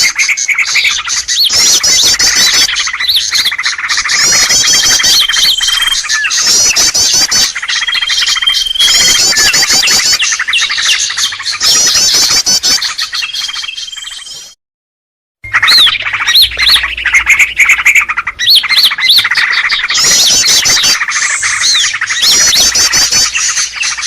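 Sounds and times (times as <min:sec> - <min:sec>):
birds chirping and twittering: 0:00.0 - 0:14.6, 0:15.4 - 0:24.0.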